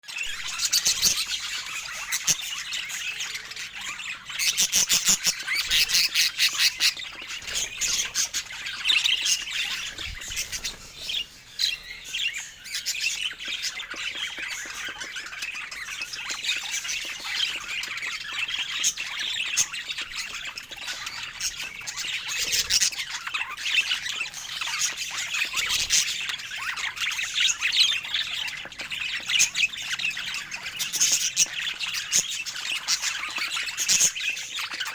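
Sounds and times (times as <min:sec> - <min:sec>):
budgerigar chatter: 0:00.1 - 0:34.9.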